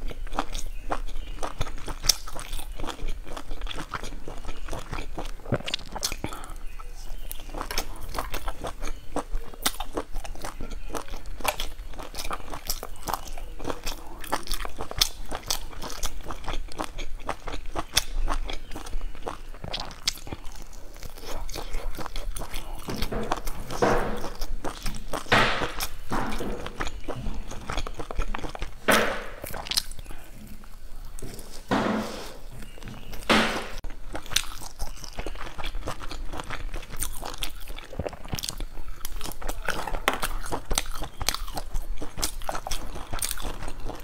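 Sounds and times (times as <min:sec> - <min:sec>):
chewing and crunching: 0:00.0 - 0:44.0.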